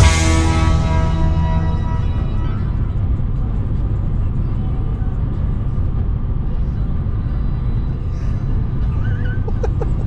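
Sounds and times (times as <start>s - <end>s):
vehicle driving rumble from cabin: 0.0s - 10.0s.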